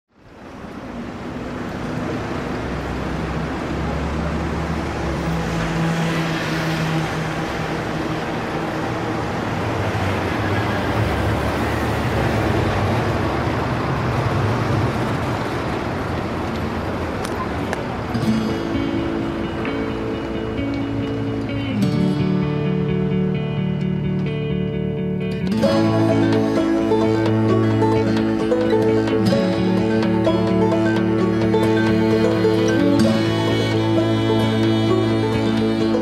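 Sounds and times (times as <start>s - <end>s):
traffic-like noise: 0.1s - 36.0s.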